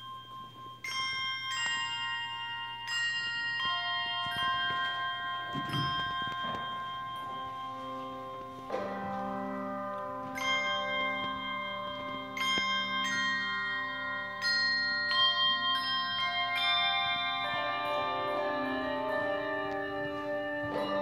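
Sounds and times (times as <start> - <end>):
handbell choir ringing chords: 0.0 - 21.0.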